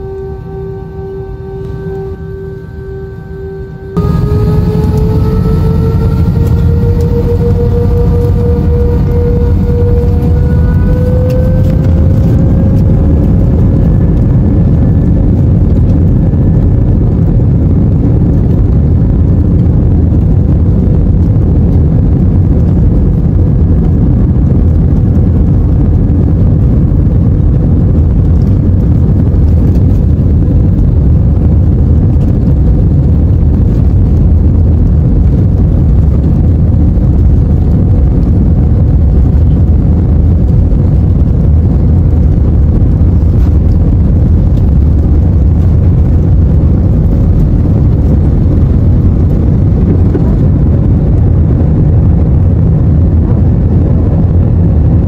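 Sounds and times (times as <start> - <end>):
jet engines spooling up and roaring: 0.0 - 55.0.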